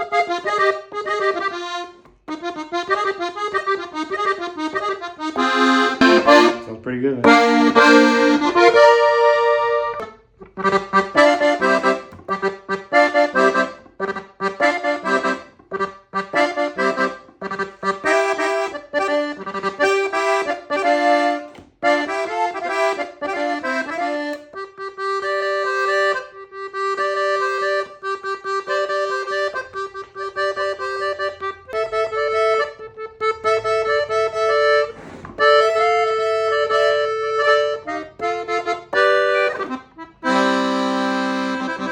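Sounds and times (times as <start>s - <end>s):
button accordion playing a tune: 0.0s - 41.9s.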